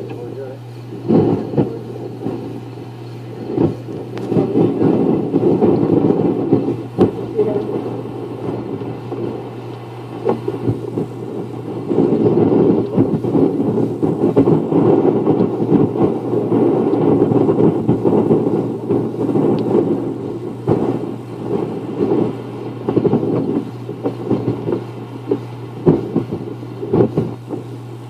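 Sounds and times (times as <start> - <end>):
gusty wind buffeting microphone: 0.0 - 28.0
steady low hum: 0.0 - 28.0.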